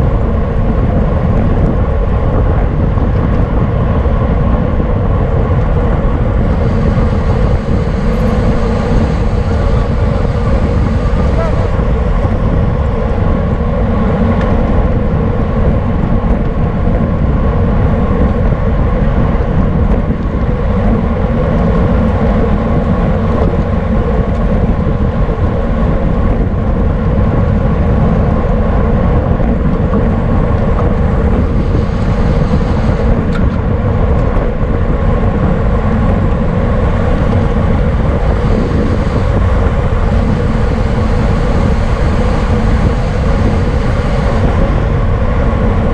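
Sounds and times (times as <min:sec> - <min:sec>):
wind rush on microphone: 0:00.0 - 0:45.9.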